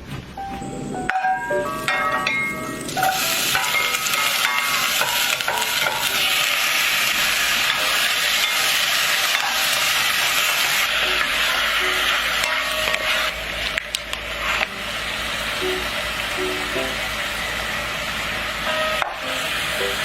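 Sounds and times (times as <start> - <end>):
food sizzling in hot oil: 1.2 - 20.0.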